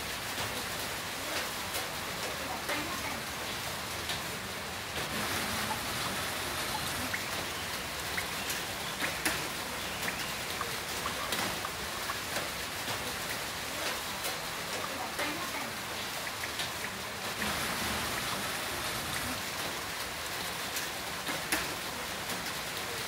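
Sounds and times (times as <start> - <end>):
heavy rain falling: 0.0 - 23.0
raindrops tapping a surface: 0.0 - 23.0.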